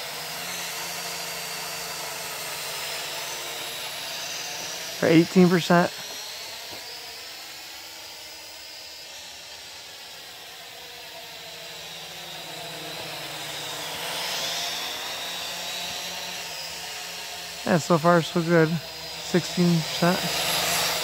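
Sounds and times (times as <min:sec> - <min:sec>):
drone propellers whirring: 0:00.0 - 0:21.0.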